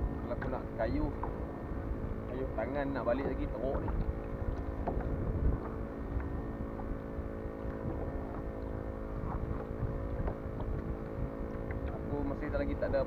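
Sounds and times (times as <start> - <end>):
steady engine-like hum: 0.0 - 13.0
wind buffeting microphone: 0.0 - 13.0.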